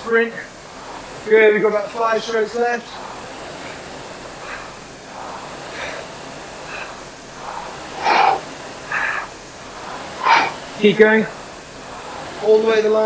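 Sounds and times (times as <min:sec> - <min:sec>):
heavy breathing: 0:00.0 - 0:12.5
rowing machine flywheel whooshing: 0:00.0 - 0:13.0.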